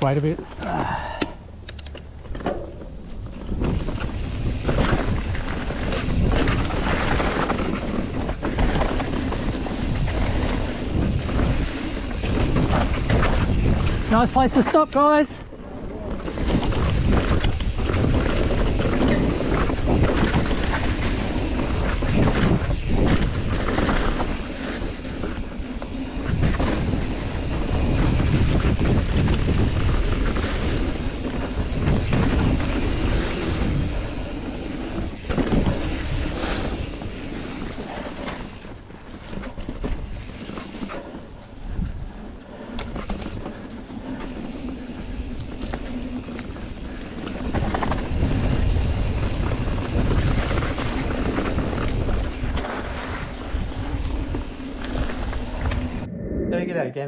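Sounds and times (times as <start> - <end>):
bike chain and frame clatter: 1.7 - 56.1
bike tyres rumbling on dirt: 2.2 - 56.1.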